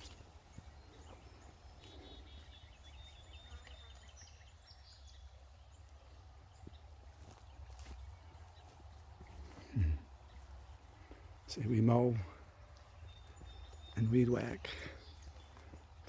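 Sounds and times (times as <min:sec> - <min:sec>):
faint songbird song: 0:00.0 - 0:16.0.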